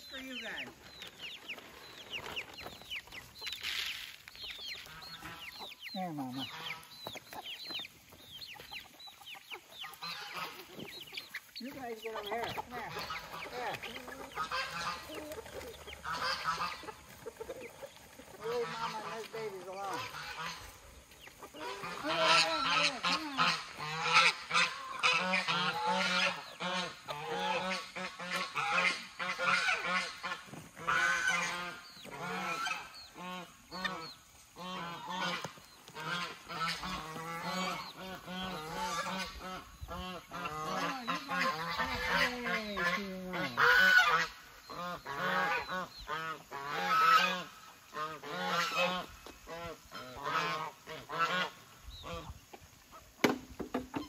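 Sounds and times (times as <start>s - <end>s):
geese honking: 0.0s - 53.1s.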